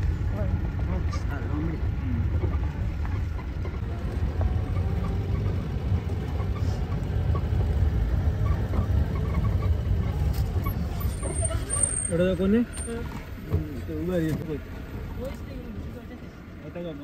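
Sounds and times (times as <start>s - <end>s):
jeep engine rumbling: 0.0s - 17.0s.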